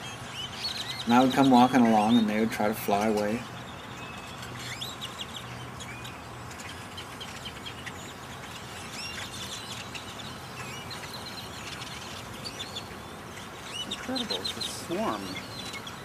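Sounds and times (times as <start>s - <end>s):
steady low hum: 0.0s - 16.0s
swarm of birds chirping: 0.0s - 16.0s.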